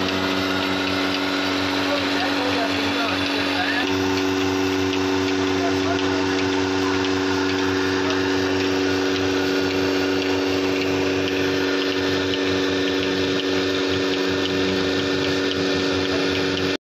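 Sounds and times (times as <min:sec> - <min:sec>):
pulsator ticking: 0:00.0 - 0:16.8
vacuum pump humming: 0:00.0 - 0:16.8.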